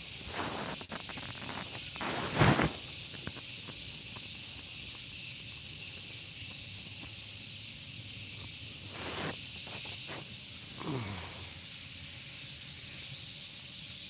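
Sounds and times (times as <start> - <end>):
high-pitched outdoor hiss: 0.0 - 14.0.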